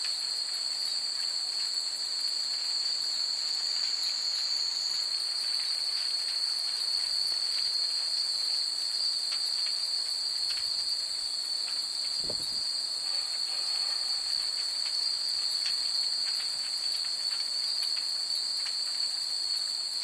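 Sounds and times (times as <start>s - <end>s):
night insects shrilling: 0.0s - 20.0s.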